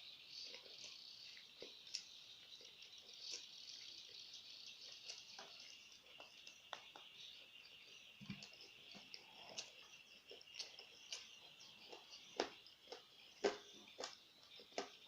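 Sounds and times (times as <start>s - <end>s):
insects chirring: 0.0s - 15.0s
chewing with wet crunches: 0.4s - 15.0s.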